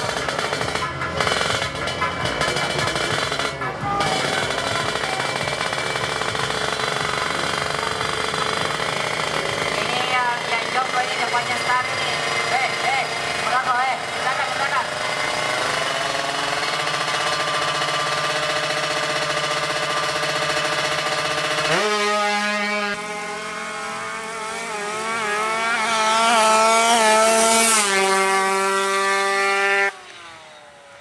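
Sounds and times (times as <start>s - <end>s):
two-stroke motorcycle engine revving: 0.0s - 31.0s.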